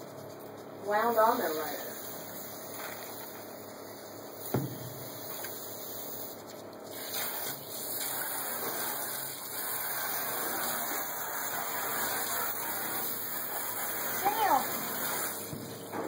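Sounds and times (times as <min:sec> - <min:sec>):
water spraying into a steel sink: 0:00.9 - 0:16.0.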